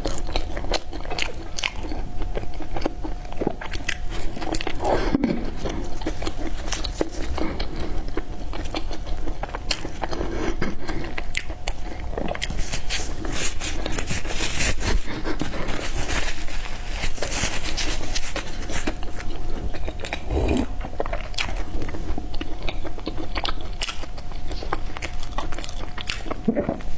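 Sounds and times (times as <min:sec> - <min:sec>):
chewing and biting bread: 0:00.0 - 0:26.9.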